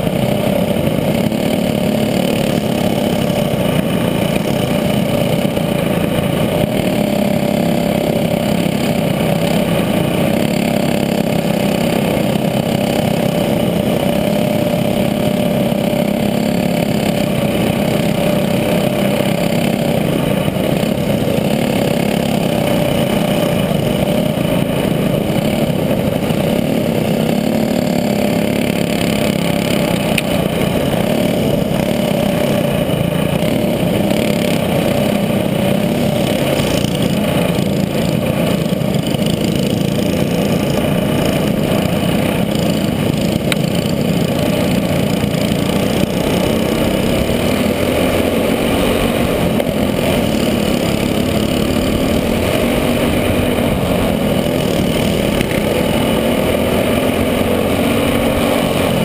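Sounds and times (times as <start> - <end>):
kart engine running: 0.0 - 59.0.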